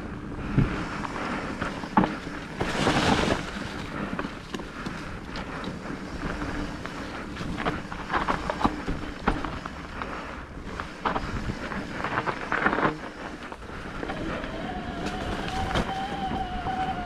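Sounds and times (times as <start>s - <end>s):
steady whine: 0.0s - 17.0s
wind on microphone: 0.0s - 17.0s
bike rattling and knocking: 0.8s - 17.0s.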